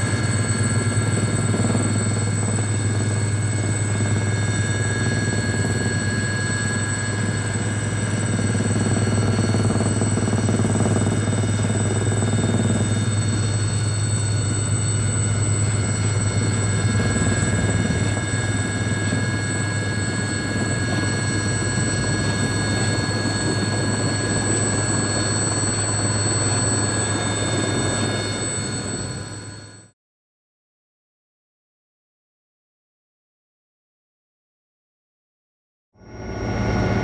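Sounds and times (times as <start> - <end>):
mechanical drone with high whines: 0.0 - 29.9, 36.0 - 37.0.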